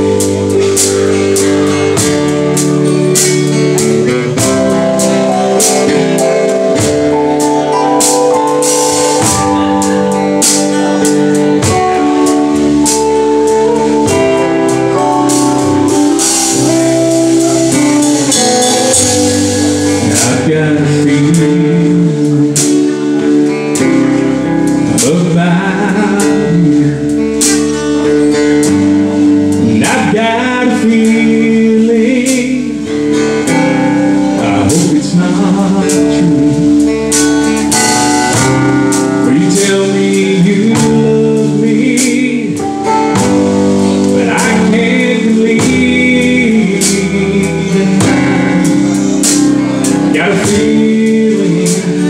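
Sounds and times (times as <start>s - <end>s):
acoustic guitar: 0.0s - 52.0s
drum kit: 0.0s - 52.0s
electric bass: 0.0s - 52.0s
keyboard holding long chords: 0.0s - 52.0s
man singing: 0.0s - 52.0s.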